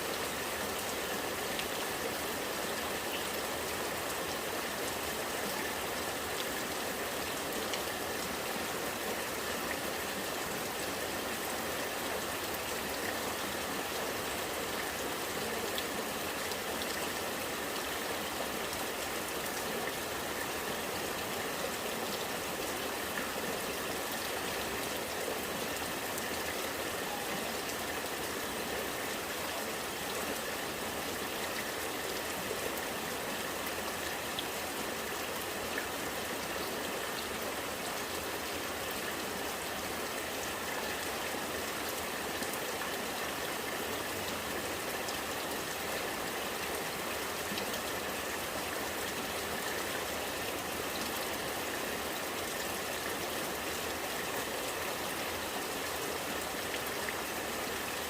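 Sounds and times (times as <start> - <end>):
rainwater running and gurgling: 0.0 - 58.0.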